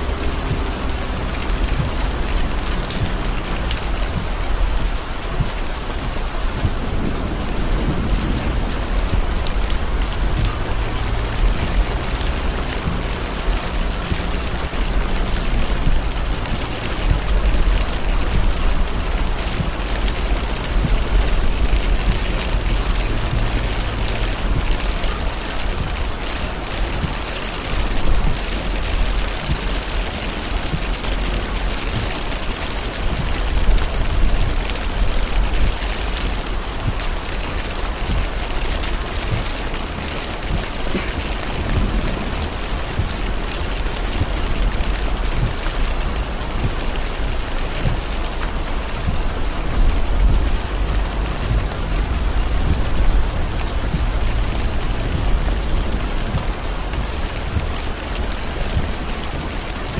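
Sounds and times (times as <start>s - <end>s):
car rumble on wet road: 0.0s - 59.9s
heavy rain on car roof: 0.0s - 59.9s.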